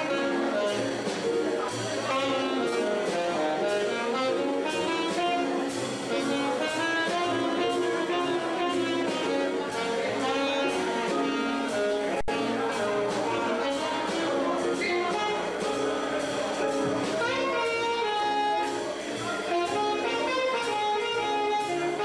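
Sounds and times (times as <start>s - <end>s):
drum kit cymbals: 0.0s - 22.0s
saxophone melody: 0.0s - 22.0s
upright bass: 0.0s - 22.0s.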